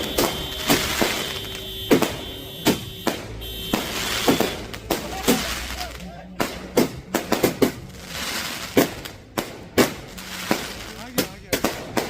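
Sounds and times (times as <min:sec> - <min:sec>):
firecrackers banging: 0:00.0 - 0:12.0
music playing: 0:00.0 - 0:12.0.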